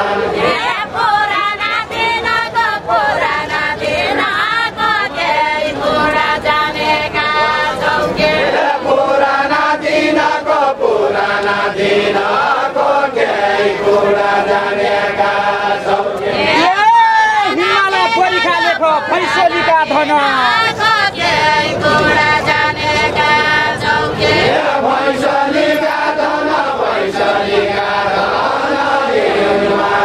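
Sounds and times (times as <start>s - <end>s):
group singing in unison: 0.0s - 30.0s.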